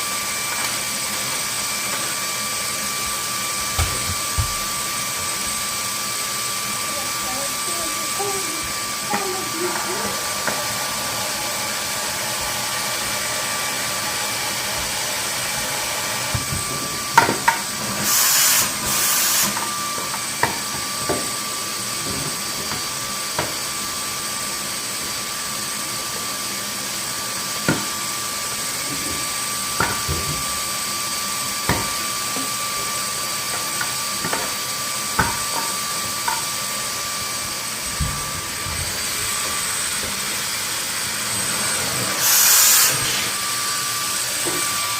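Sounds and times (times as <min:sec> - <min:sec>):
vacuum hiss rushes: 0:00.0 - 0:16.7, 0:17.8 - 0:22.0, 0:22.9 - 0:44.9
vacuum cleaner whining: 0:00.0 - 0:44.9.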